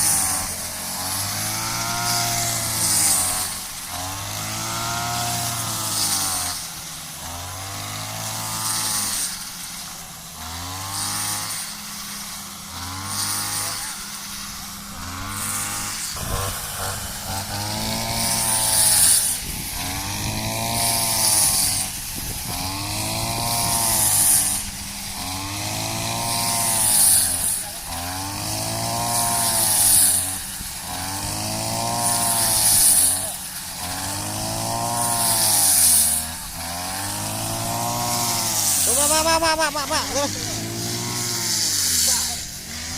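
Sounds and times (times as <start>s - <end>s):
small engine revving: 0.0s - 42.9s.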